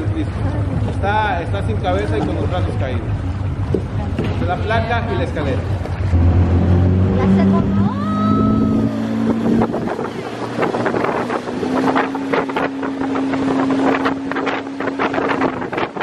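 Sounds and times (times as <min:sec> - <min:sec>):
outboard motor running: 0:00.0 - 0:16.0
water rushing along hull: 0:00.0 - 0:16.0
wind buffeting microphone: 0:00.0 - 0:16.0.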